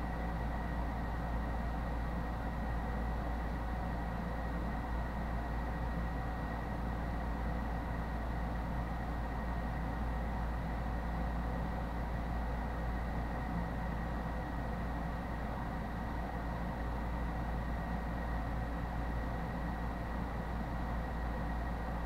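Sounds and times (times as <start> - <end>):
steady low hum with hiss: 0.0 - 22.0.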